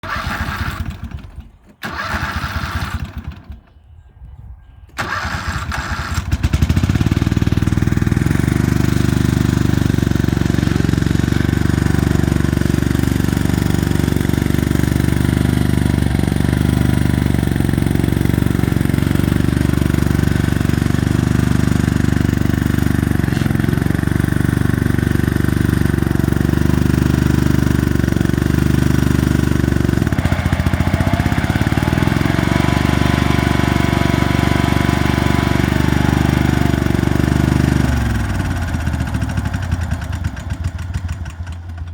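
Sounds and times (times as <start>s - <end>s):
lawnmower engine cranking: 0.0s - 3.7s, 5.0s - 41.9s
lawnmower engine running: 0.0s - 3.8s, 5.0s - 41.9s.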